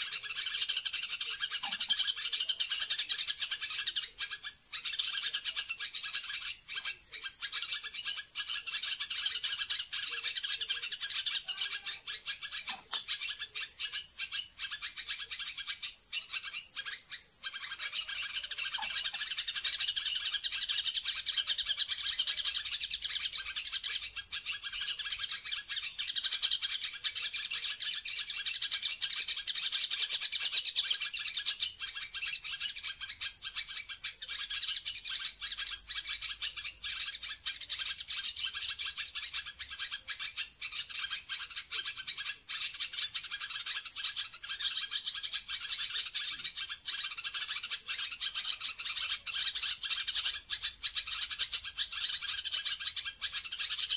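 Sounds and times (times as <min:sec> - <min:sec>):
birds chirping and chattering: 0:00.0 - 0:53.9.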